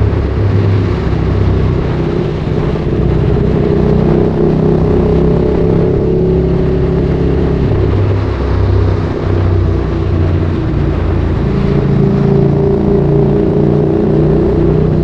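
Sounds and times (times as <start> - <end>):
motorcycle engine while riding: 0.0 - 15.0.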